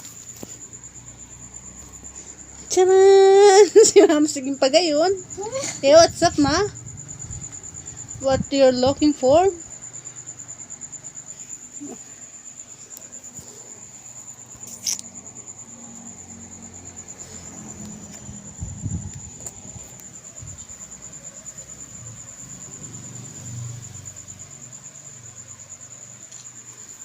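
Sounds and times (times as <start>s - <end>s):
cricket chirping: 0.0s - 27.0s.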